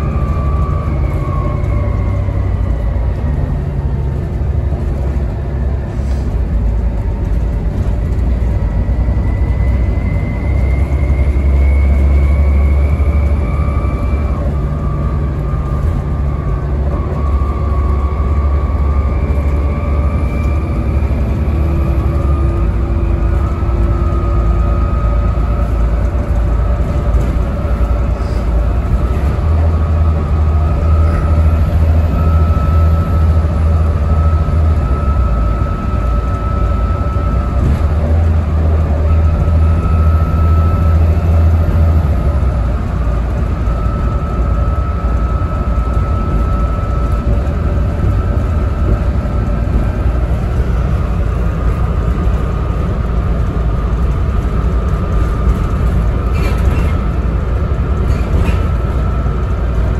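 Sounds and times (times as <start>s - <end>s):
bus diesel engine drone: 0.0s - 59.9s
thin whine: 8.8s - 59.9s.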